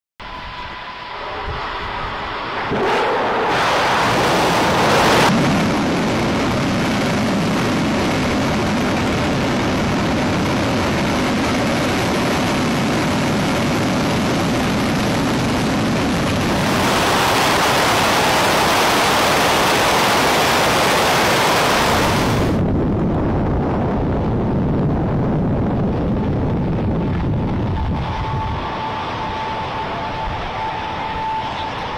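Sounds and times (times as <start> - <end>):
rocket engines rumbling: 0.2 - 31.9.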